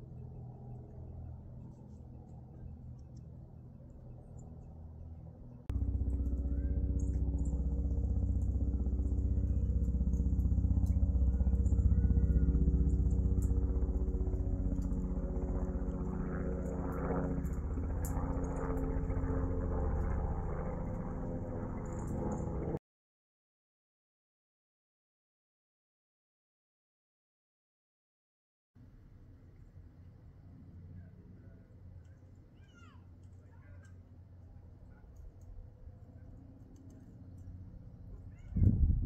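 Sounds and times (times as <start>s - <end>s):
helicopter rotor chop and engine drone: 0.0s - 22.8s, 30.4s - 39.0s.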